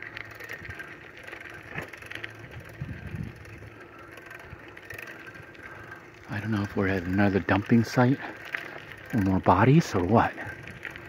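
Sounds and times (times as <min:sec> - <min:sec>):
bicycle drivetrain clicks: 0:00.0 - 0:11.0
bicycle rolling over rough ground: 0:00.0 - 0:11.0.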